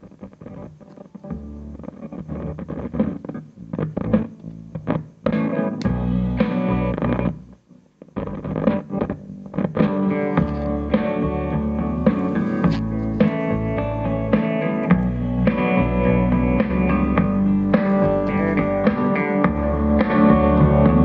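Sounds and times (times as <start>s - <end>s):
guitar music with heavy bass: 0.0s - 21.0s.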